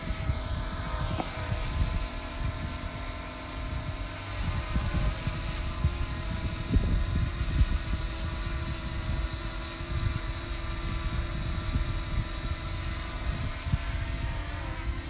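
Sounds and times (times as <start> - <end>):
drone propellers whining: 0.0 - 15.0
wind buffeting microphone: 0.0 - 15.0.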